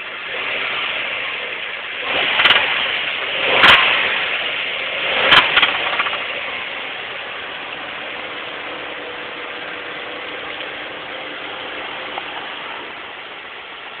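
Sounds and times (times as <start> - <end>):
car engine knocking clatter: 1.6 - 14.0.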